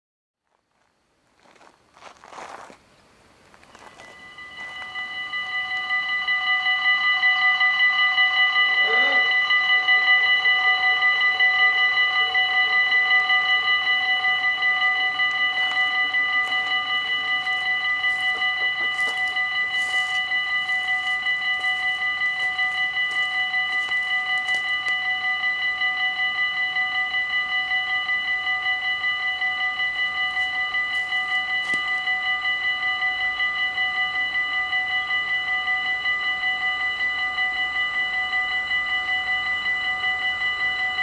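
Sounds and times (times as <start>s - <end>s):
level-crossing warning bells ringing: 1.4s - 41.0s.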